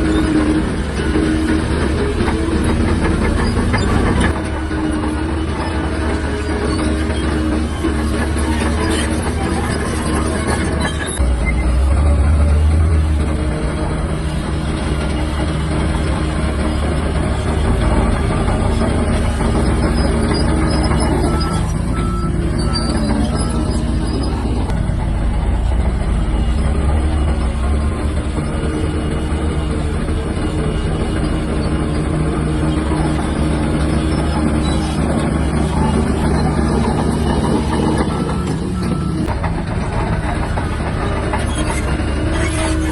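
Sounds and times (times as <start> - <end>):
bulldozer diesel engine rumbling: 0.0 - 42.9.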